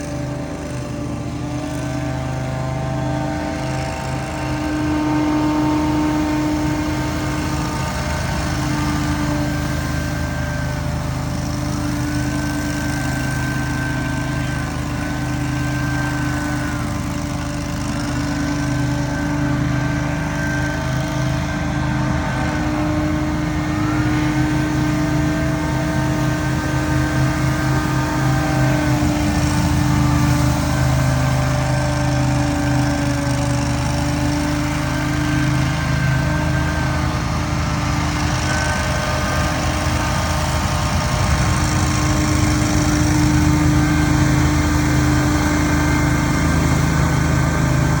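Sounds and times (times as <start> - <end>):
lawn equipment engine running: 0.0 - 48.0.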